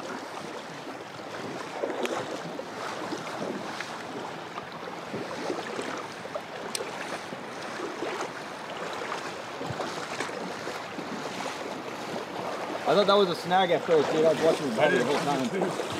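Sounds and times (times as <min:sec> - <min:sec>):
river water rushing: 0:00.0 - 0:15.9.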